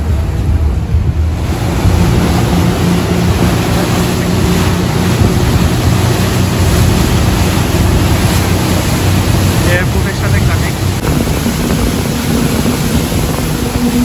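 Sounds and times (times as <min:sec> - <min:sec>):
boat engine drone: 0:00.0 - 0:14.0
water spray rushing: 0:00.0 - 0:14.0
wind buffeting microphone: 0:00.0 - 0:14.0.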